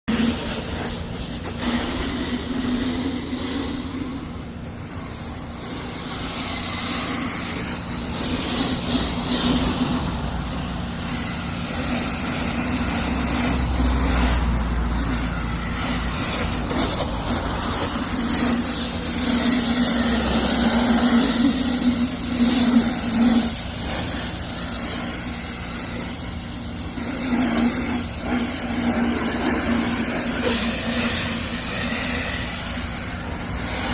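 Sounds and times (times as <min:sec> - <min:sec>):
motor running: 0:00.1 - 0:33.9
spray hissing: 0:00.1 - 0:33.9.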